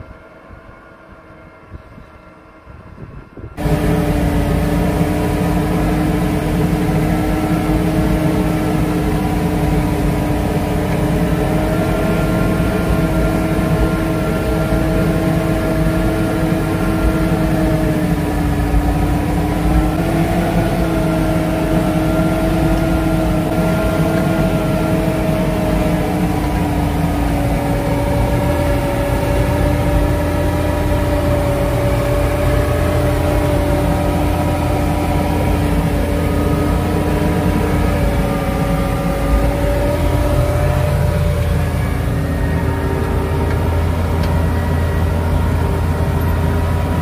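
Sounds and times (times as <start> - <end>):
tractor diesel engine running: 3.4 - 47.0.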